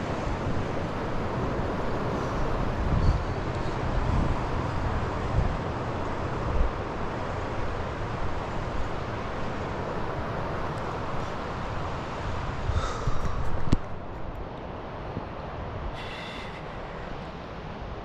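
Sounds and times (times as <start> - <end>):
wind gusts buffeting microphone: 0.0 - 18.0.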